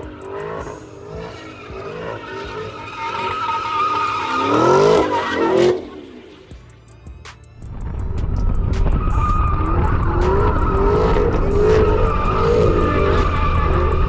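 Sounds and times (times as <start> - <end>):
tyre squeal: 0.0 - 6.4, 8.2 - 14.0
car engine rumble: 0.0 - 14.0.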